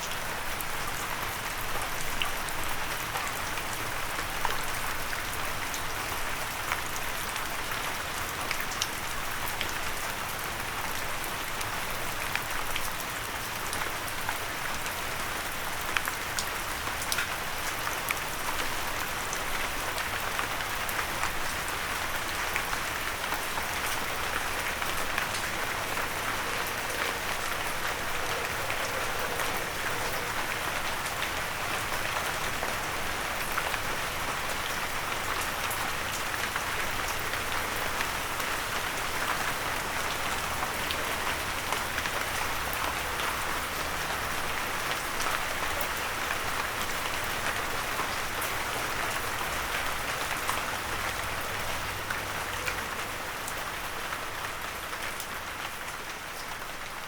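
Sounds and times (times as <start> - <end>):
rain pattering on a windowsill: 0.0 - 57.0.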